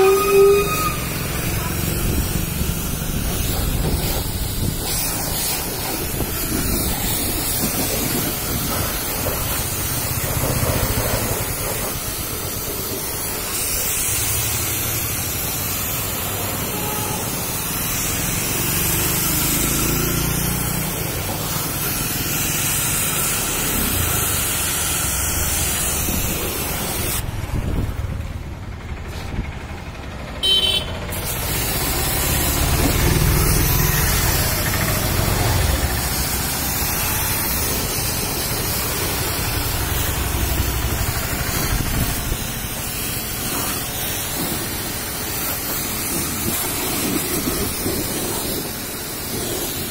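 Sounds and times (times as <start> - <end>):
pressure washer water spray: 0.0 - 28.3, 30.4 - 49.9.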